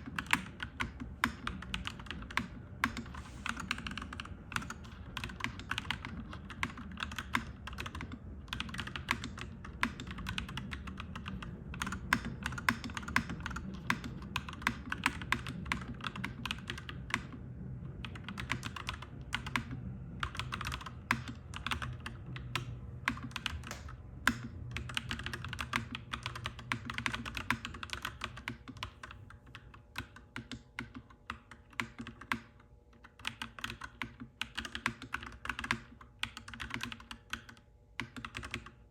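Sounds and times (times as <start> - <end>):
mechanical keyboard typing: 0.0 - 17.4, 18.0 - 38.8.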